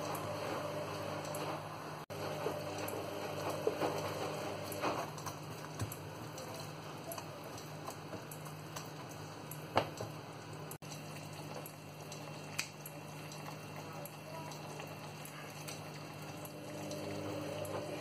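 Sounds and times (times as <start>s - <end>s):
onions bubbling in saucepan: 0.0s - 18.0s.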